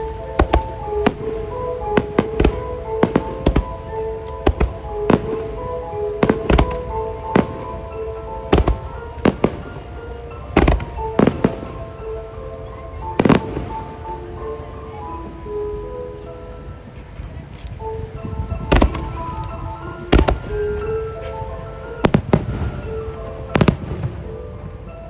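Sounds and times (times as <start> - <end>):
fireworks bangs: 0.0 - 25.0
piano music: 0.0 - 25.0.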